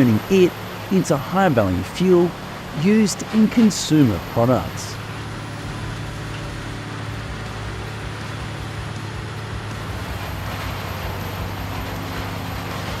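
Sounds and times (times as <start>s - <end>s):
continuous grinding noise: 0.0s - 13.0s
diesel engine humming: 0.0s - 13.0s.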